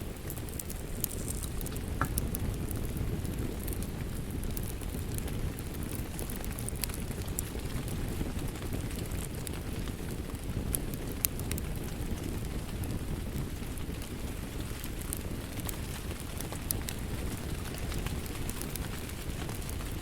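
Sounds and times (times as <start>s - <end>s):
low rush of rain: 0.0s - 20.0s
wood fire crackling: 0.0s - 20.0s.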